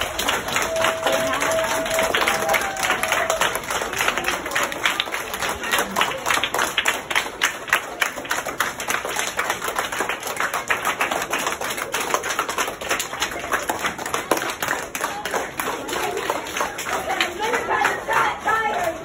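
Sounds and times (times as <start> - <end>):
children clapping hands: 0.0 - 19.0.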